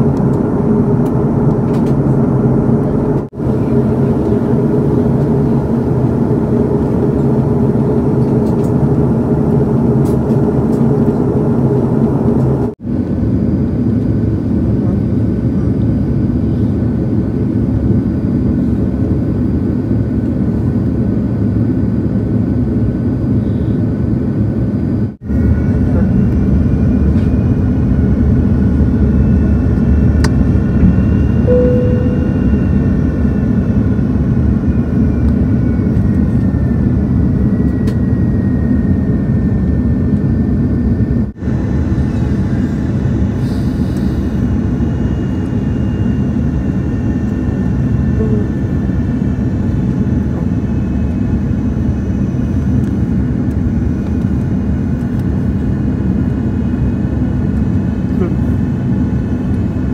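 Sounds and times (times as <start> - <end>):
faint whining engine tones: 0.0 - 21.7, 22.3 - 59.9
airplane cabin roar: 0.0 - 59.9.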